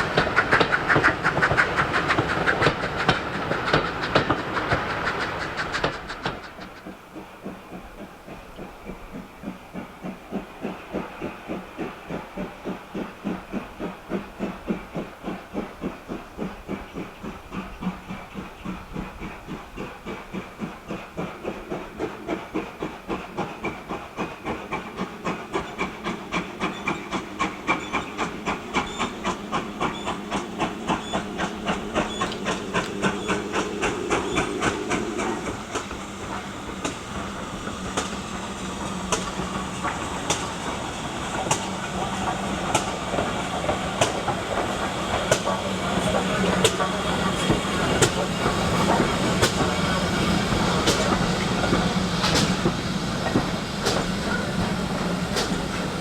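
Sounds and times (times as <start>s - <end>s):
steam hissing: 0.0s - 56.0s
steam locomotive exhaust beats: 0.0s - 56.0s.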